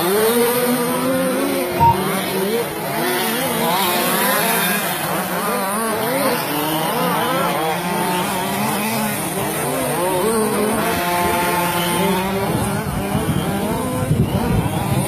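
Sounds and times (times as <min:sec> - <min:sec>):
rc truck motors whining: 0:00.0 - 0:15.0.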